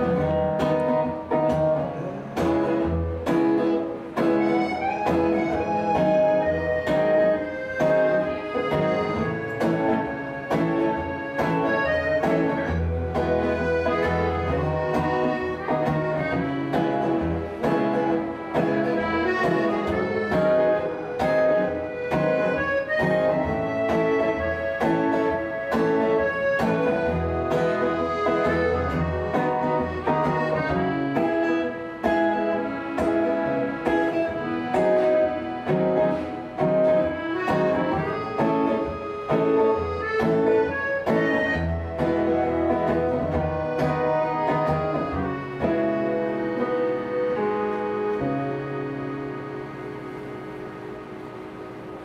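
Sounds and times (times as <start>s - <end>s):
button accordion melody: 0.0s - 52.0s
plucked string instrument: 0.0s - 52.0s.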